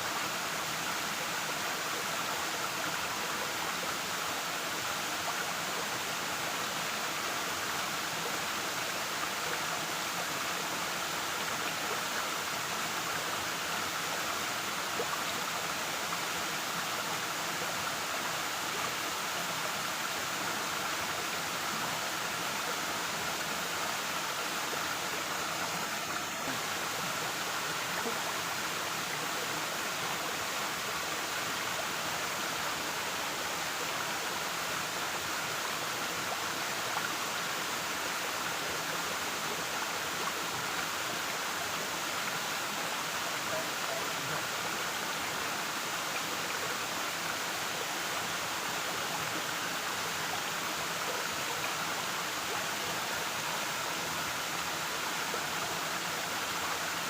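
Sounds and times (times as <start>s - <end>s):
waterfall rushing: 4.0s - 57.0s.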